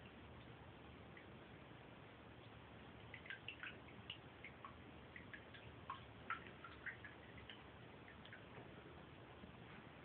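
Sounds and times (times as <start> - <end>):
water dripping in bathtub: 0.0 - 9.7.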